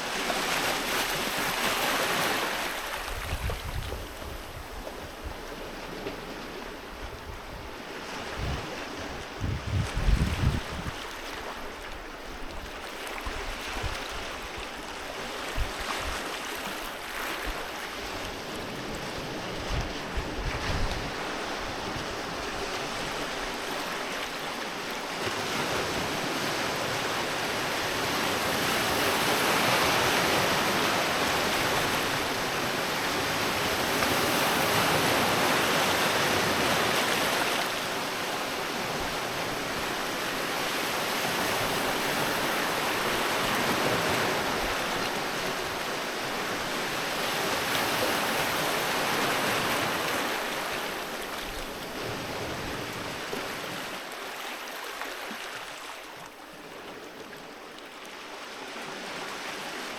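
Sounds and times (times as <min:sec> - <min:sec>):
waves washing onto beach: 0:00.0 - 0:59.9.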